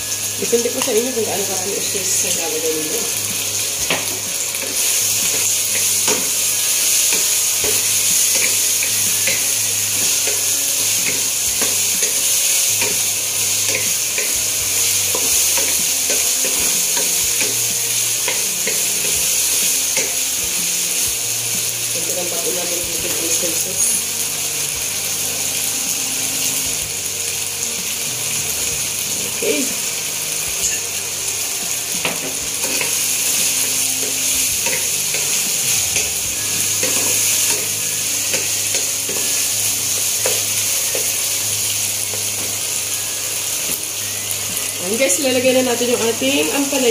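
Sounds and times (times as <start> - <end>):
food sizzling in hot oil: 0.0 - 46.9.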